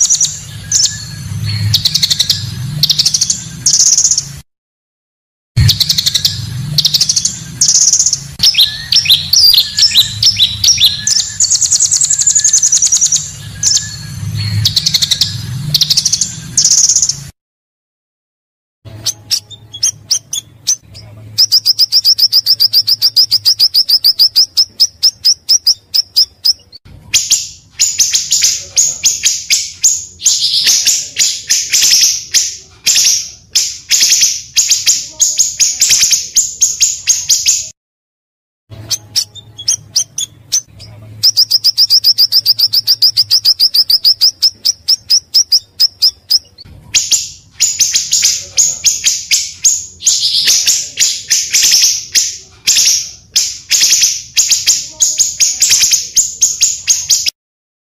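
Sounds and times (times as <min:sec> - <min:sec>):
bird trilling: 0:00.0 - 0:04.4, 0:05.6 - 0:17.3, 0:18.9 - 0:37.7, 0:38.8 - 0:57.3
songbird chirping and whistling: 0:00.0 - 0:04.4, 0:05.6 - 0:17.3, 0:18.9 - 0:37.8, 0:38.7 - 0:57.3.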